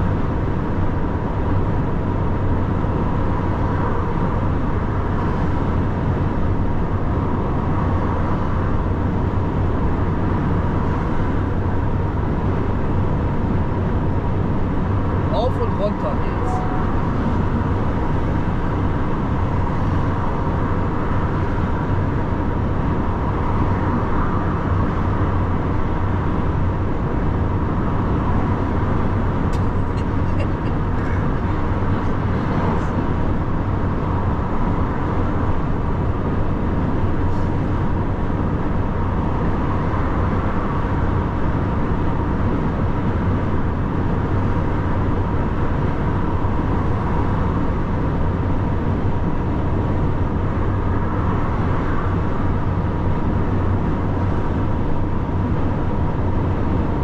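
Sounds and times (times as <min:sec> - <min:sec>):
lorry driving at speed: 0:01.3 - 0:57.0.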